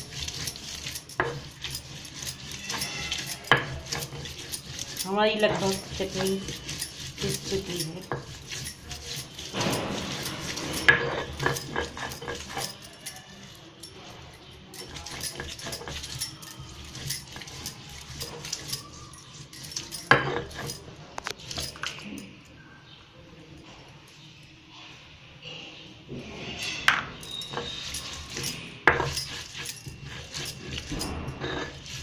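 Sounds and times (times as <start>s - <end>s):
stone grinding gritty scraping: 0.0s - 22.3s, 26.3s - 32.0s
bangles jingling: 0.0s - 22.6s, 26.5s - 32.0s.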